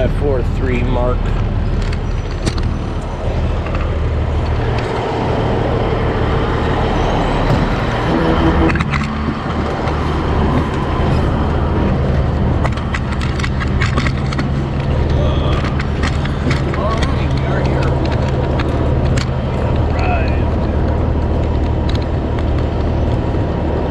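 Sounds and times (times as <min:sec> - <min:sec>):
large vehicle engine drone: 0:00.0 - 0:23.9
road noise: 0:00.0 - 0:23.9.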